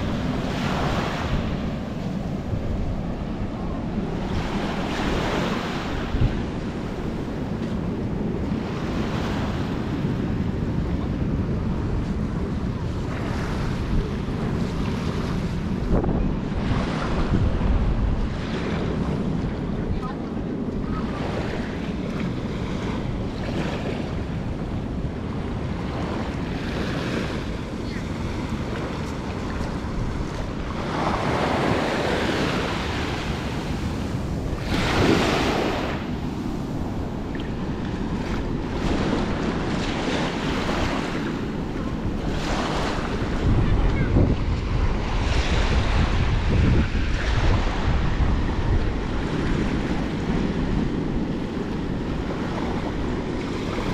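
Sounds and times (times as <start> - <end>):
small waves lapping on sand: 0.0 - 53.9
wind buffeting microphone: 0.0 - 53.9.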